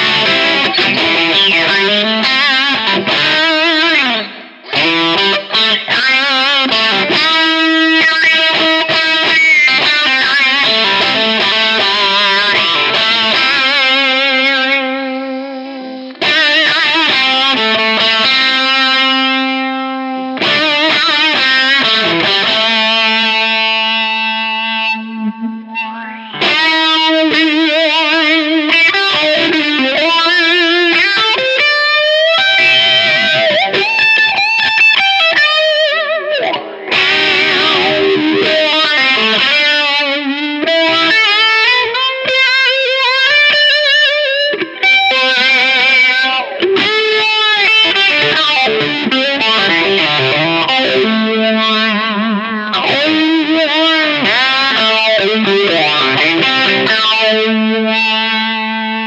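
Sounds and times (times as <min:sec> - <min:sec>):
electric guitar with filter sweep: 0:00.0 - 0:59.0.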